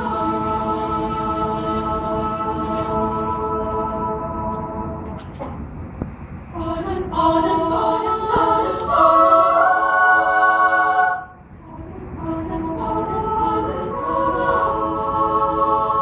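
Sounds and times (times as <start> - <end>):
children's choir singing a cappella: 0.0 - 5.7, 6.5 - 16.0.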